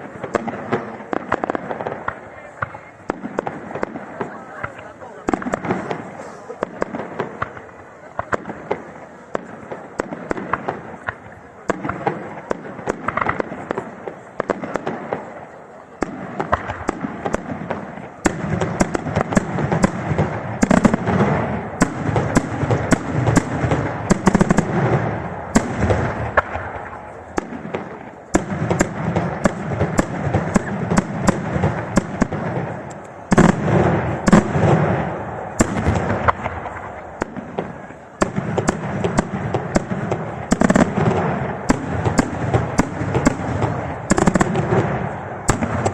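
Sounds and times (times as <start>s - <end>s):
fireworks bangs: 0.0s - 45.9s
fireworks crackling: 0.0s - 45.9s.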